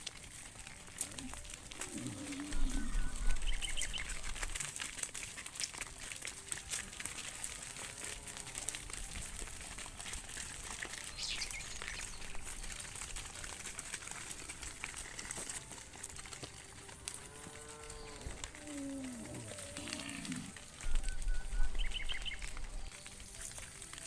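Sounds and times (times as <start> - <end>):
hooves scuffing on dirt: 0.0 - 24.0.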